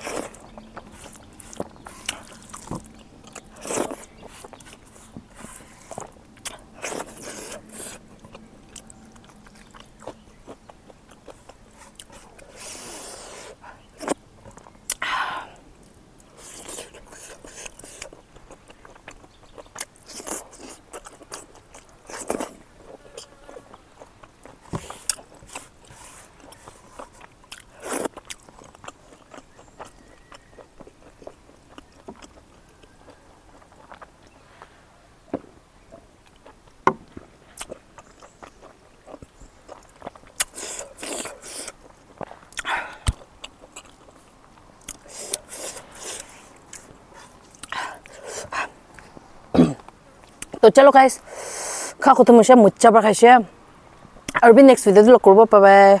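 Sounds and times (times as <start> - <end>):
close-up chewing and biting: 0.0 - 15.1, 15.8 - 34.7, 36.2 - 50.6.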